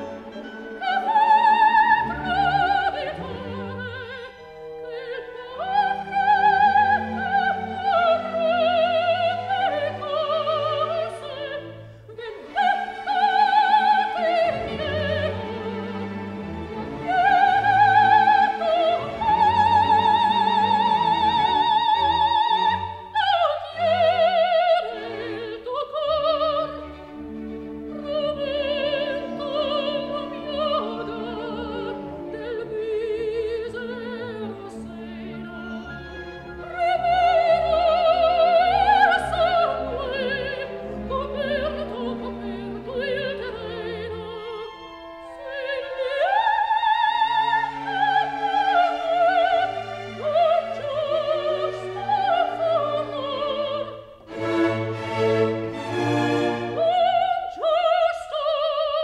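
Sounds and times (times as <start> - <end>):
operatic singing: 0.0 - 59.0
orchestral accompaniment: 0.0 - 59.0.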